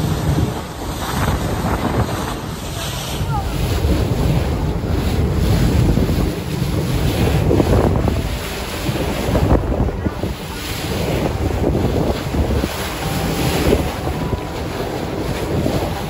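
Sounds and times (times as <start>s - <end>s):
waves rushing along hull: 0.0s - 16.0s
wind buffeting microphone: 0.0s - 16.0s.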